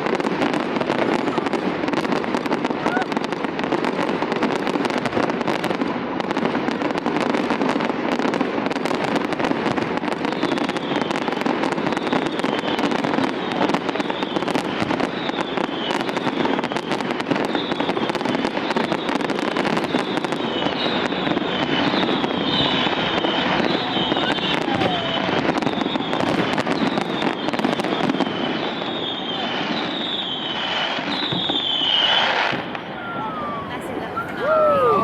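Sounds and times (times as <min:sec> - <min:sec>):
high-pitched firework squeals: 0:00.0 - 0:05.6, 0:10.1 - 0:35.0
fireworks crackling: 0:00.0 - 0:35.0.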